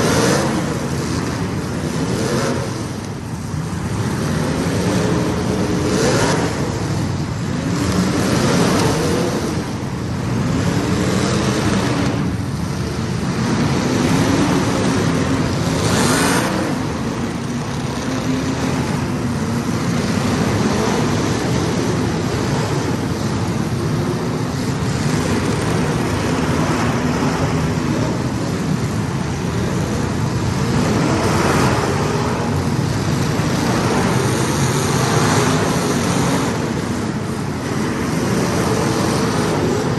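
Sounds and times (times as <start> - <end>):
small race car engines: 0.0 - 39.9.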